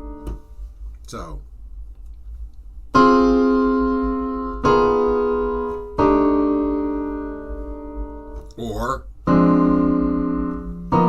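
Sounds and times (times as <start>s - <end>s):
piano chords: 0.0s - 0.8s, 2.9s - 11.0s.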